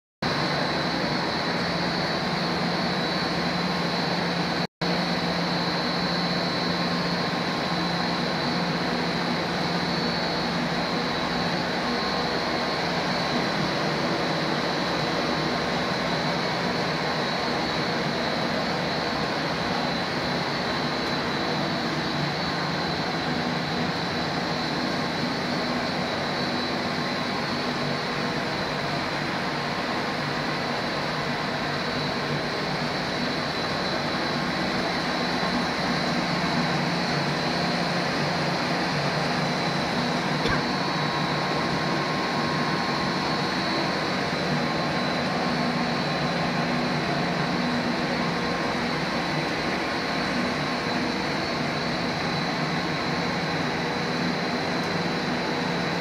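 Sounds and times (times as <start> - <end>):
high machine whine: 0.2 - 56.0
machinery drone: 0.2 - 56.0.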